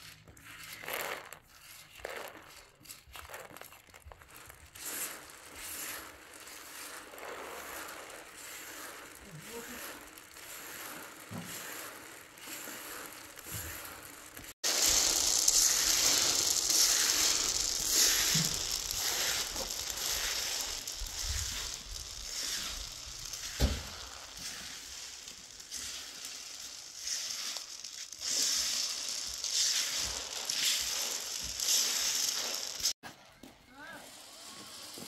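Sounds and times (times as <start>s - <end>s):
pistachios rattling on metal trays: 2.1s - 33.0s.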